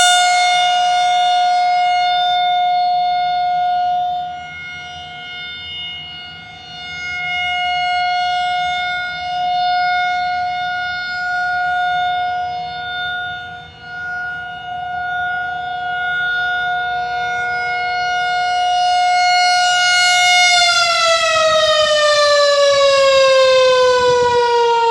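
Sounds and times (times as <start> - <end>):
rotating warning siren: 0.0 - 24.9.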